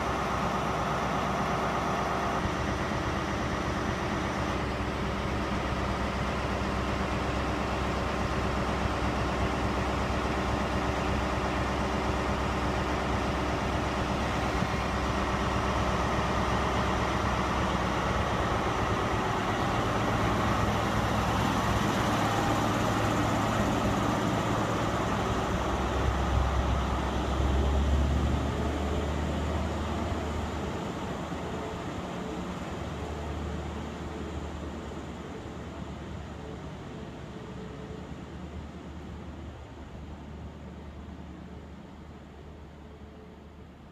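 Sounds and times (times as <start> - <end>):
diesel train engine running: 0.0 - 43.9.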